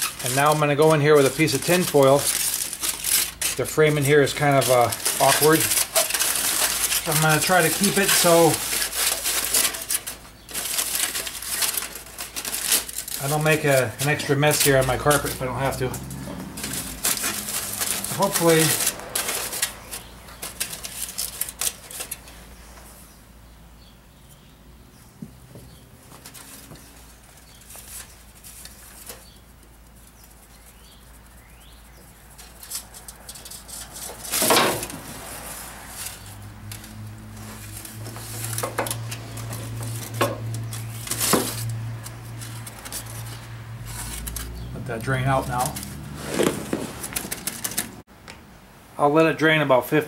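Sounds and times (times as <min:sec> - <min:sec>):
aluminium foil crinkling: 0:00.0 - 0:22.7, 0:26.1 - 0:48.1.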